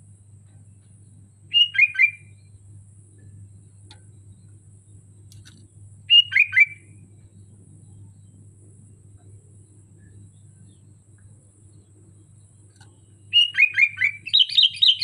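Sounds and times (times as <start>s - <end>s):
bulbul singing: 0.5s - 15.0s.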